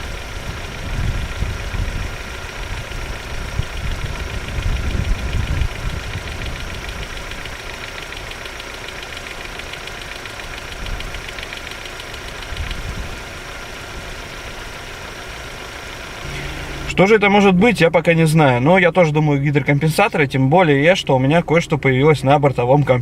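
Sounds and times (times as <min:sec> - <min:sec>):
fast ticking engine knock: 0:00.0 - 0:19.1
car engine idling: 0:00.0 - 0:23.0.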